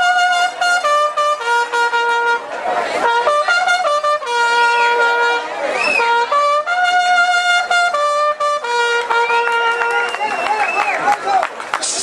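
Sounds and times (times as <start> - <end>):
trumpet playing long notes: 0.0 - 10.7.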